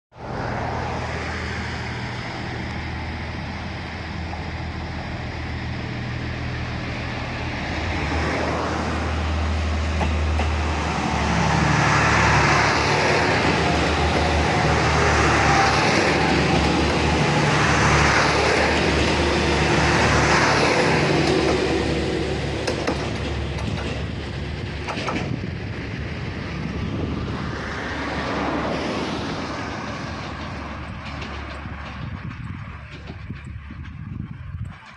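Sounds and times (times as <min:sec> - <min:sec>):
diesel train passing slowly: 0:00.1 - 0:34.9.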